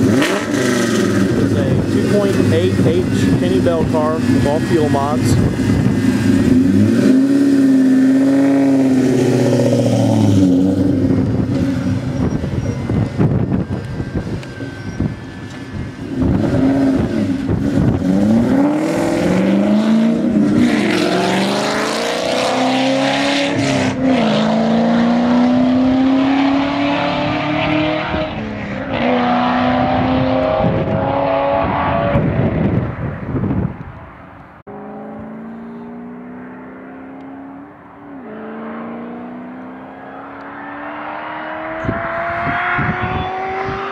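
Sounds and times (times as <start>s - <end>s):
car engine revving and accelerating: 0.0s - 33.0s, 34.7s - 43.9s.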